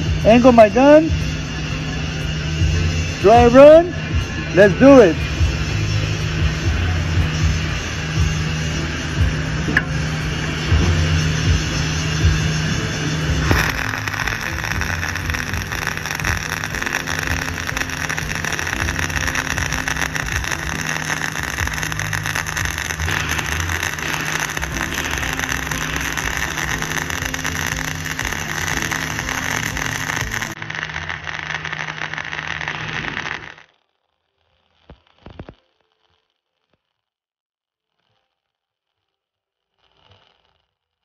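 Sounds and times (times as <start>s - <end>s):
welding arc crackling hiss: 2.3s - 37.0s, 37.8s - 41.0s.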